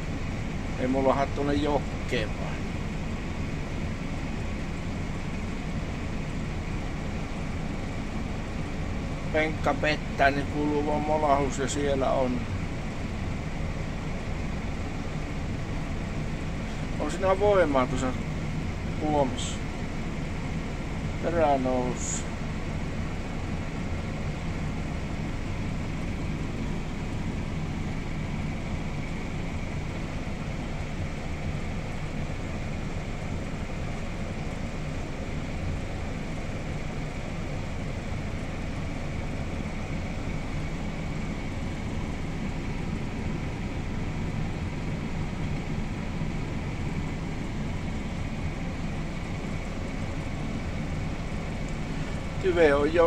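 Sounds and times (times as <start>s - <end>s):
diesel engines droning: 0.0s - 53.0s
faint steady whine: 0.0s - 53.0s.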